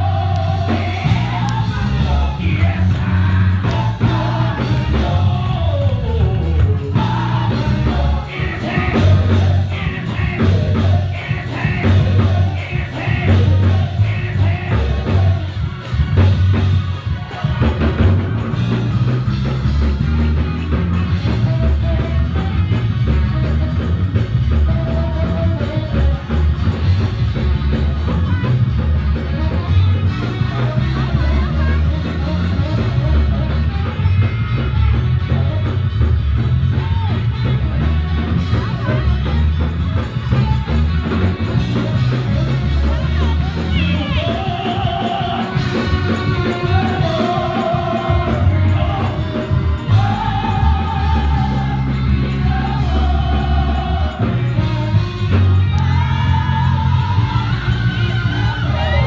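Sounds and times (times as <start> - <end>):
voices singing: 0.0 - 35.8, 36.7 - 59.0
drum kit: 0.0 - 59.0
heavy pulsing bass: 0.0 - 59.0.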